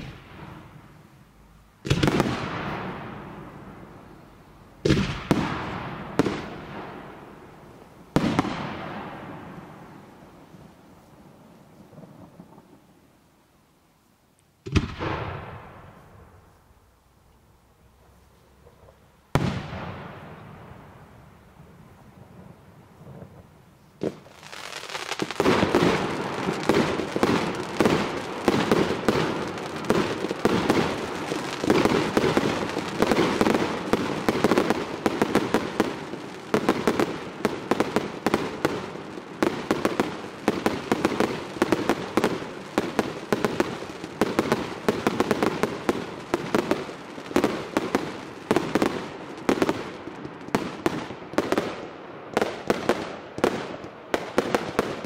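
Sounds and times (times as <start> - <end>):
fireworks bangs: 0.0 - 13.1, 14.6 - 16.6, 18.0 - 55.0.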